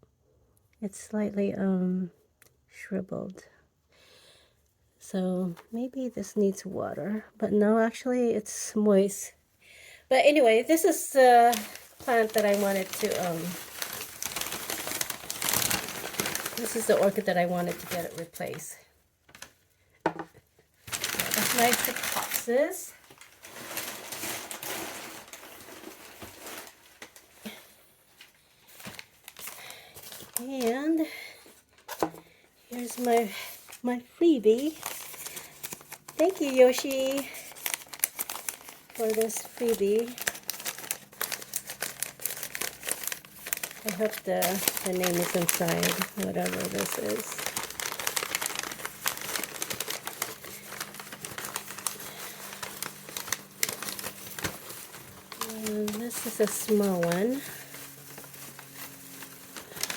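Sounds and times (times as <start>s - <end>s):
packaging and plants rustling: 10.2s - 19.6s, 20.7s - 59.9s.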